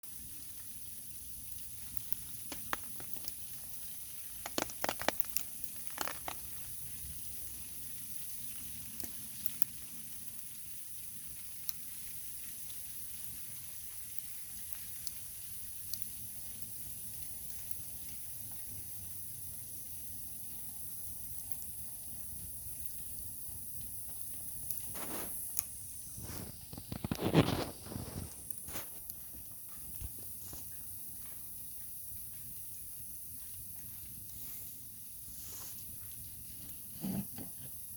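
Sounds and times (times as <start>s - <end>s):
rain hiss: 0.0s - 37.9s
wood crackling in stove: 0.0s - 37.9s.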